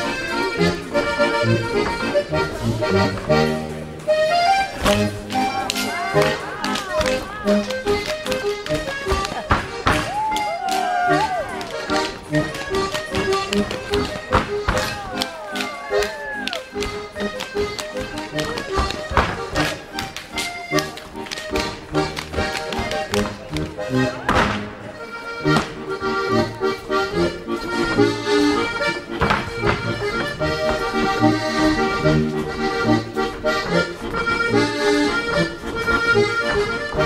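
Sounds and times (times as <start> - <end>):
folk music with accordion: 0.0 - 37.0.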